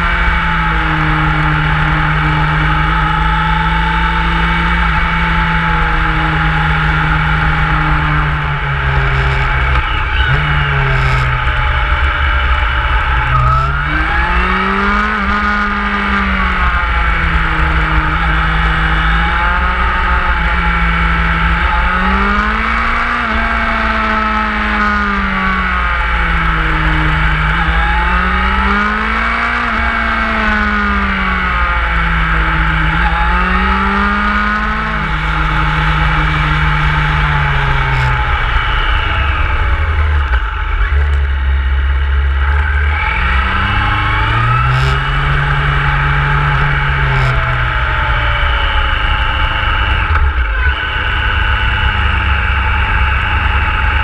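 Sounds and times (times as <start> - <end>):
low wind rumble: 0.0 - 54.0
motorcycle engine revving: 0.0 - 54.0.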